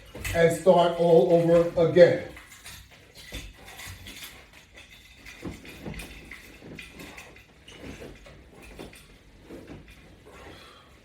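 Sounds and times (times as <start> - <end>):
rustling of person moving: 0.0 - 11.0.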